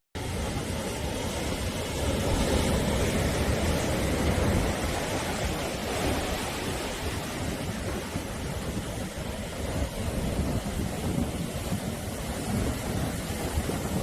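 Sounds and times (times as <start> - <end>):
sea waves breaking on shore: 0.2 - 14.0.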